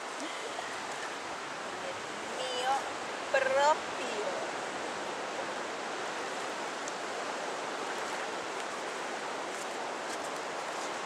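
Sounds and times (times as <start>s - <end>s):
sea surf on beach: 0.0s - 11.0s.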